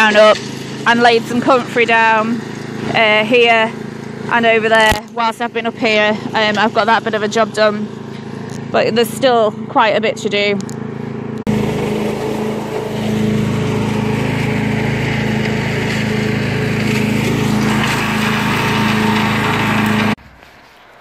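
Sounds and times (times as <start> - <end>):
wood chipper running: 0.0 - 21.0.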